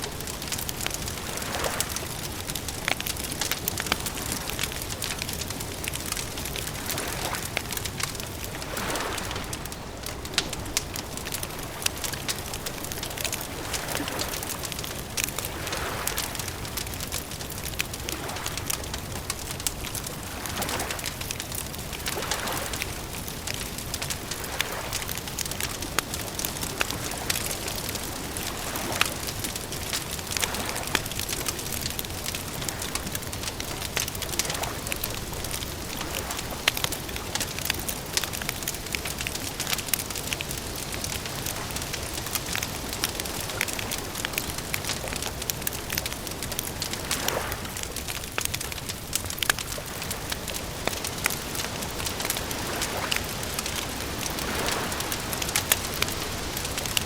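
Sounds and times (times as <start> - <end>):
steady fire hiss: 0.0 - 57.0
wood fire crackling: 0.0 - 57.0.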